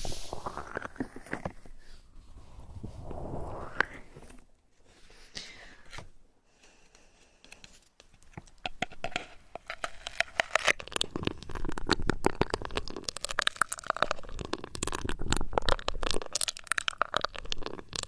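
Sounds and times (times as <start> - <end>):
crinkling and crackling: 0.0 - 18.0.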